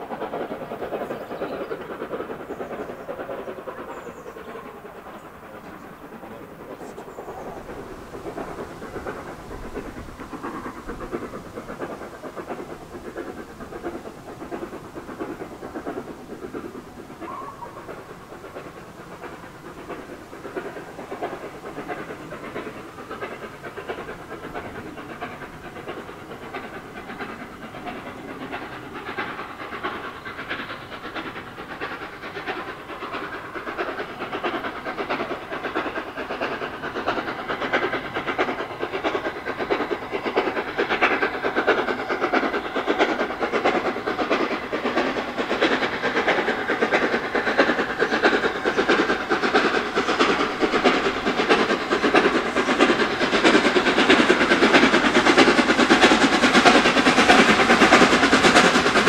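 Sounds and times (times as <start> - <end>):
steam locomotive exhaust beating: 0.0 - 59.0.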